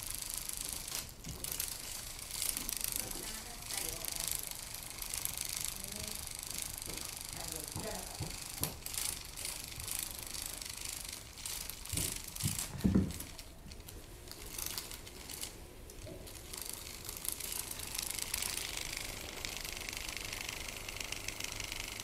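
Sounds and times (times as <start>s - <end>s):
small motor whirring: 0.0s - 22.0s
toy wings fluttering and rattling: 0.0s - 22.0s.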